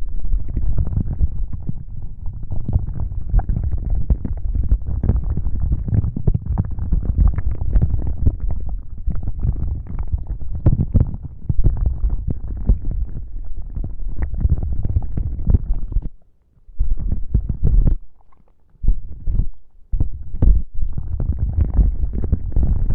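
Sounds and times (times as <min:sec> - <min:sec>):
rubbing against microphone: 0:00.0 - 0:22.9.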